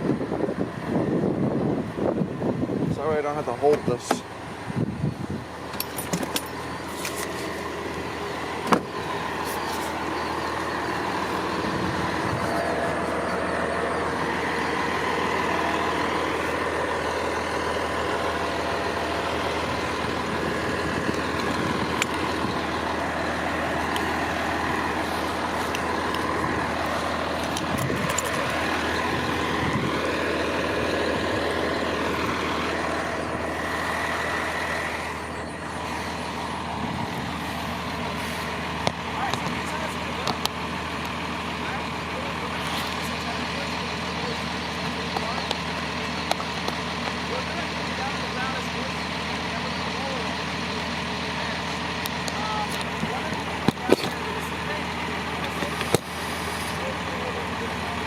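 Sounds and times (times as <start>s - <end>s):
steady whine: 0.0s - 58.0s
truck engine idling: 0.0s - 58.0s.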